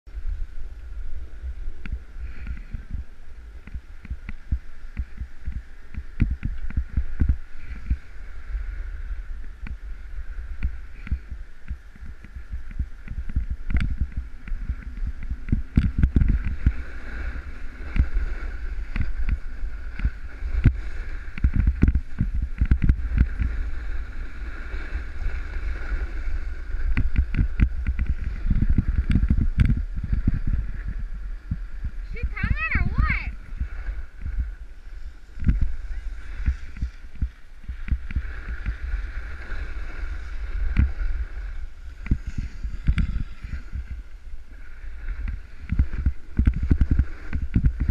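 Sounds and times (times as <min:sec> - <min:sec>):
snowboard sliding over snow: 0:00.1 - 0:47.9
wind buffeting microphone: 0:00.1 - 0:47.9.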